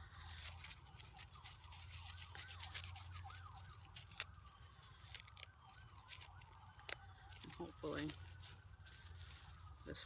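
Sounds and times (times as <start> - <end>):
bark being torn by hand: 0.4 - 8.6.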